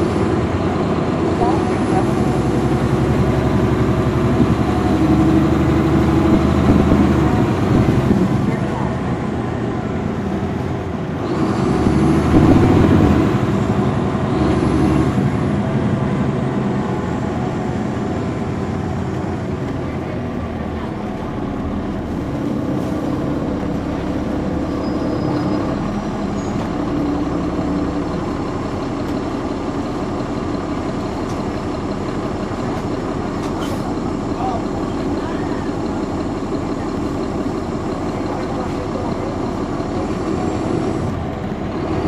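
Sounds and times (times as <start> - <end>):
bus diesel engine running: 0.0 - 42.0.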